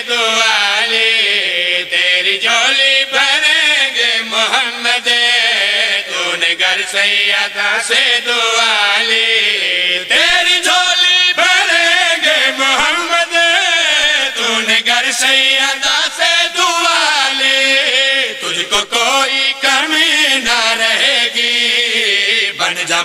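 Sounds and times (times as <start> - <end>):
men chanting unaccompanied: 0.0 - 23.0.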